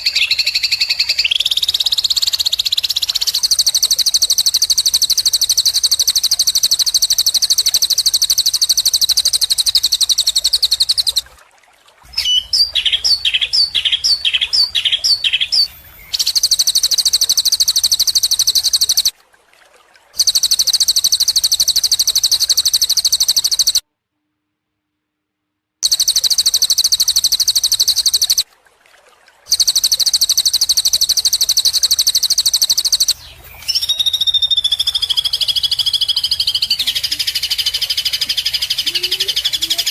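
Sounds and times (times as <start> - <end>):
high-pitched bird trill: 0.0 - 11.2, 12.2 - 19.1, 20.2 - 23.8, 25.8 - 28.4, 29.5 - 39.9
whistled bird call: 0.0 - 11.3, 12.1 - 19.1, 20.2 - 23.8, 25.8 - 28.4, 29.5 - 39.9.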